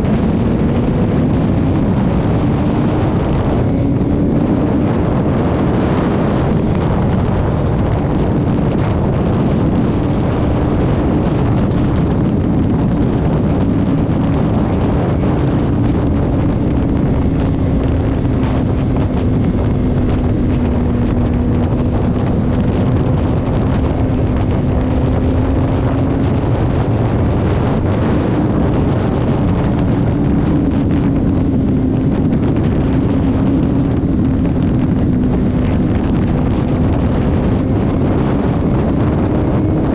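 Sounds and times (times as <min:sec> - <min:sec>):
vehicle engine drone: 0:00.0 - 0:39.9
wind and road noise: 0:00.0 - 0:39.9.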